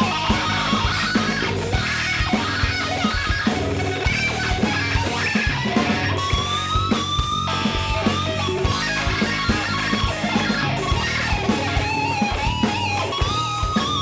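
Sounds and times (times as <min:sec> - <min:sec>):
bass guitar: 0:00.0 - 0:14.0
electric guitar picking: 0:00.0 - 0:14.0
steady drum beat: 0:00.0 - 0:14.0.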